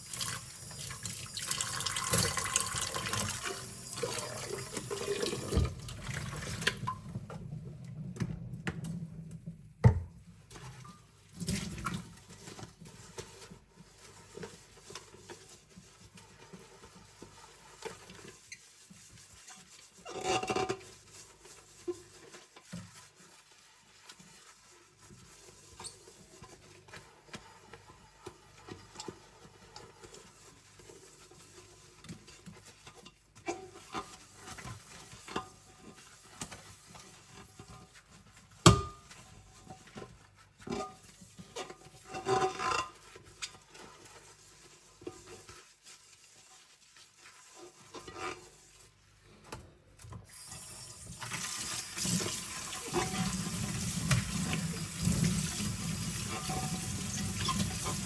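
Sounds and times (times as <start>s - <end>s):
scrubbing a steel pot: 0.0s - 7.9s, 9.4s - 58.0s.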